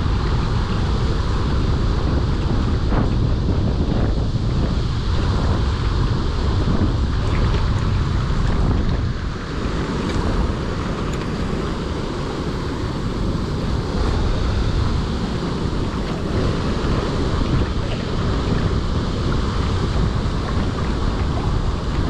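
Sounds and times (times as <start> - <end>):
water splashing against rocks: 0.0 - 22.0
wind buffeting microphone: 0.0 - 22.0.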